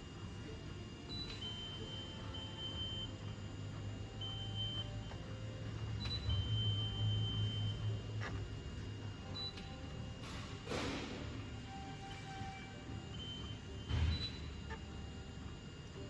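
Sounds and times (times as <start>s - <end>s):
multimeter beeping: 1.0s - 10.3s, 11.5s - 16.0s.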